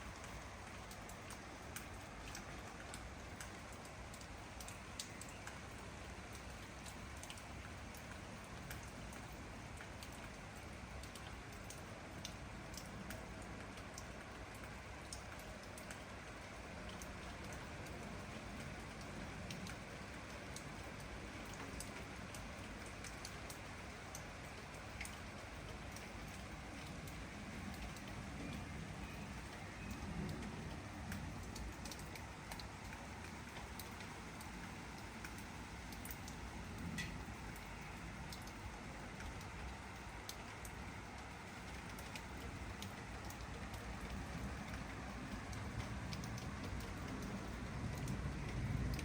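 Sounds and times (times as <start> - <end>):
raindrops ticking: 0.0 - 49.0
steady rain patter: 0.0 - 49.0.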